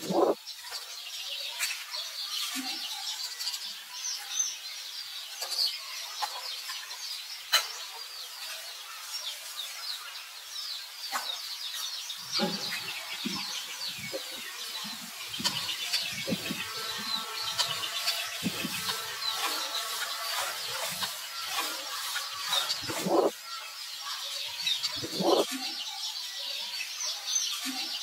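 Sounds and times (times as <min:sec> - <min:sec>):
birds chirping and twittering: 0:00.0 - 0:28.0.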